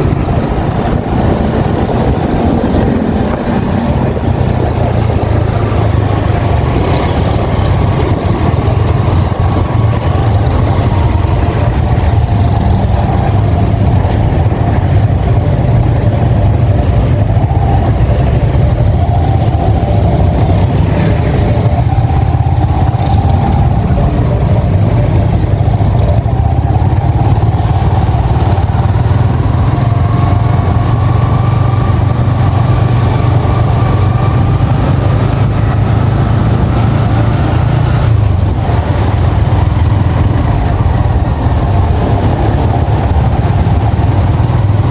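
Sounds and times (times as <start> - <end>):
motorcycle engine running: 0.0 - 44.9
steady low rumble: 0.0 - 44.9.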